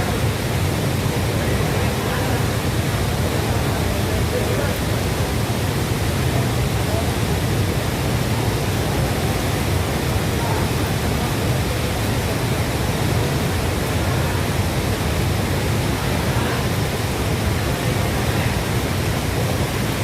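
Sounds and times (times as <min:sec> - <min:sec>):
waterfall roar: 0:00.0 - 0:20.0.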